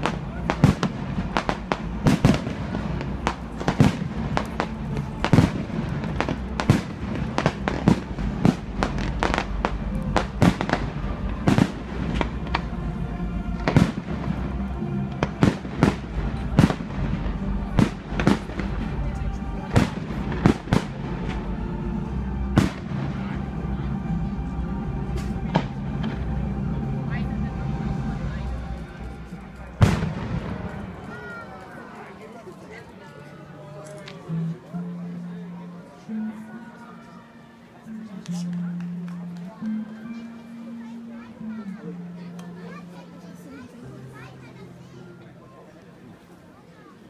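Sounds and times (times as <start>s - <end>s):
music playing: 0.0s - 46.8s.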